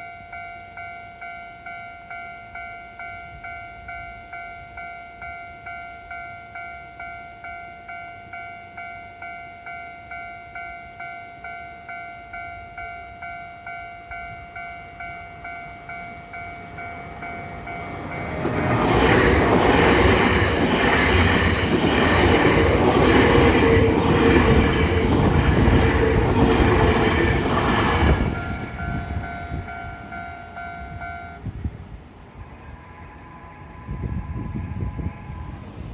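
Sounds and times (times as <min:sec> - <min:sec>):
level-crossing warning bell: 0:00.0 - 0:31.7
train passing: 0:00.0 - 0:35.9.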